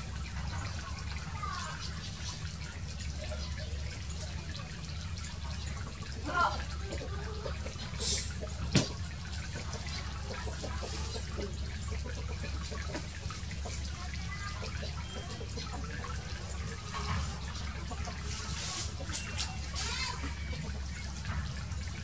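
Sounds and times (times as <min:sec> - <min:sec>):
water trickling and lapping: 0:00.0 - 0:22.0.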